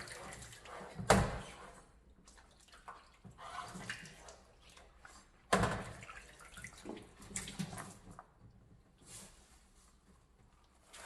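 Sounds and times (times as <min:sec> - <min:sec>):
wet sloshing and handling: 0:00.0 - 0:11.0.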